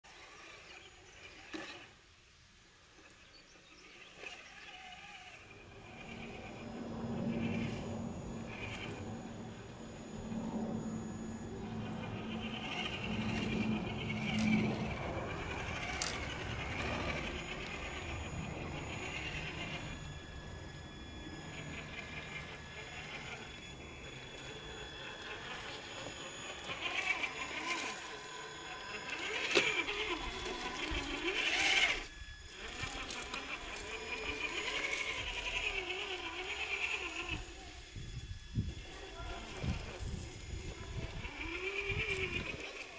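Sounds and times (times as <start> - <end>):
electric motor whining: 0.0 - 42.9.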